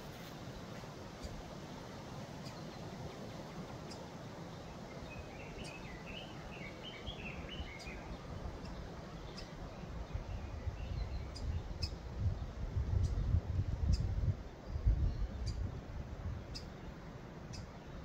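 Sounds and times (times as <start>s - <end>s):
background noise: 0.0s - 18.0s.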